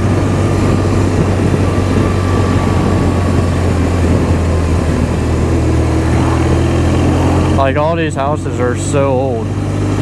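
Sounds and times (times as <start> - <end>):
motorcycle engine droning: 0.0 - 10.0
wind rushing over microphone: 0.0 - 10.0.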